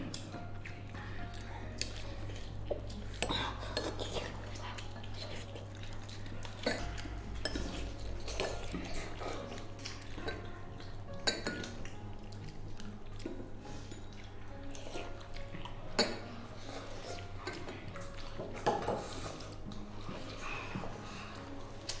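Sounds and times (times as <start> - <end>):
background music: 0.0 - 22.0
chopsticks clinking on porcelain bowls: 1.8 - 19.4.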